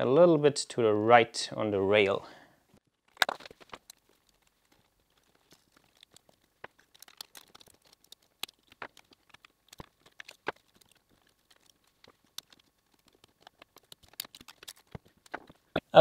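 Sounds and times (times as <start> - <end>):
wires rustling: 2.8 - 15.8.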